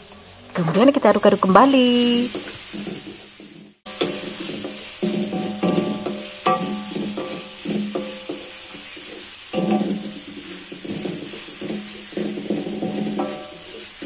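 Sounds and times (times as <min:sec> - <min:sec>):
food sizzling in hot oil: 0:00.0 - 0:14.0
wooden spatula scraping wok: 0:00.7 - 0:14.0.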